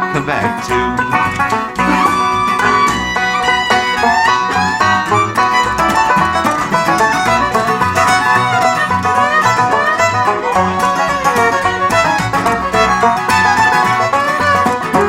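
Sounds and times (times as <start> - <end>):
bluegrass band playing: 0.0 - 15.0
rapid picked banjo: 0.0 - 15.0.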